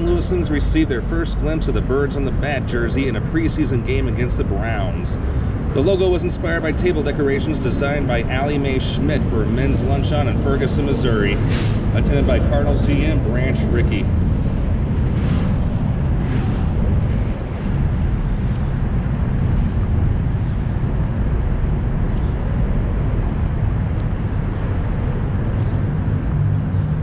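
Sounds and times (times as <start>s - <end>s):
street traffic: 0.0s - 27.0s
wind on microphone: 0.0s - 27.0s.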